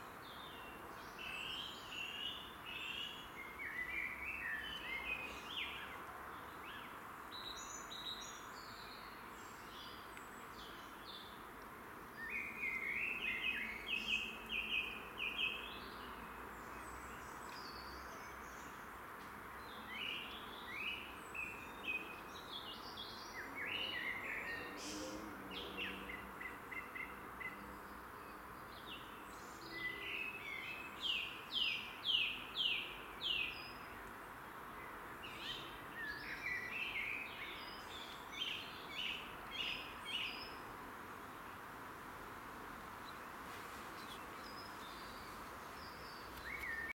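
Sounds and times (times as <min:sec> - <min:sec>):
songbirds chirping: 0:00.0 - 0:46.9.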